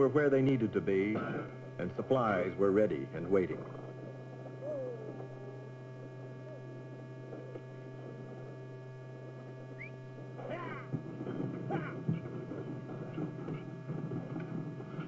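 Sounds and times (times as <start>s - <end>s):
old film soundtrack hum: 0.0s - 15.0s.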